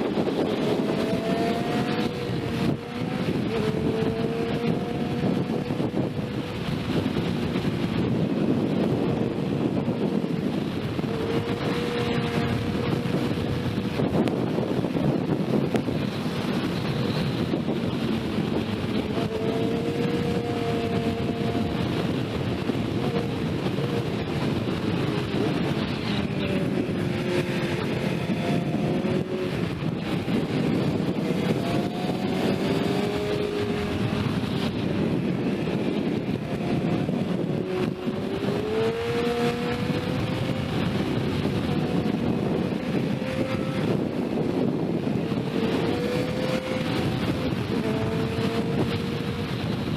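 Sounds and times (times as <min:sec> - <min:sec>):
motorcycle engine accelerating: 0:00.0 - 0:49.9
wind rush: 0:00.0 - 0:49.9.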